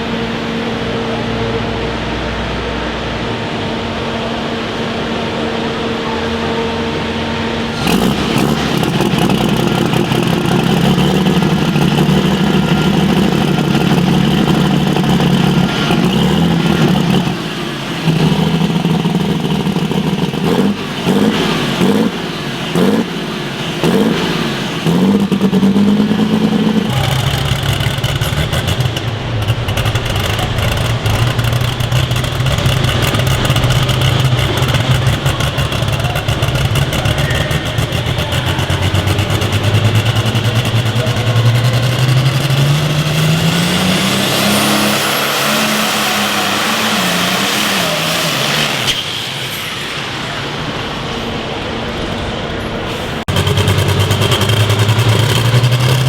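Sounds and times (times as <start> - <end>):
engine running at full throttle: 0.0 - 51.4, 52.1 - 56.0.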